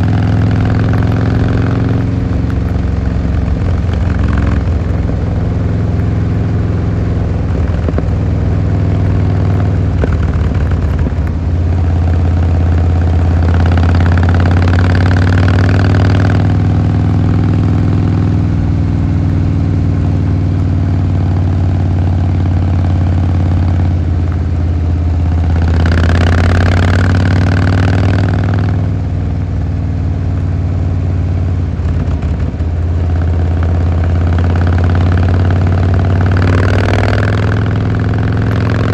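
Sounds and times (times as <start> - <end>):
motorcycle engine running low revs: 0.0 - 38.9.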